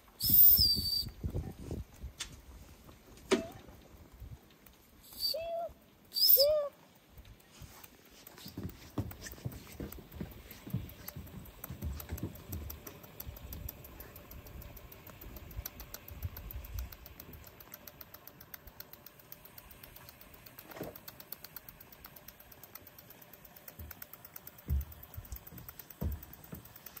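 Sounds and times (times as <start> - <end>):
toy steam engine ticking: 0.0 - 2.1, 3.4 - 27.0.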